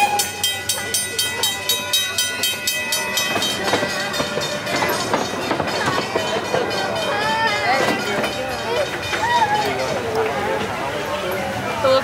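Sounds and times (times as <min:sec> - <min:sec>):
train wheels clickety-clack: 0:00.0 - 0:10.8.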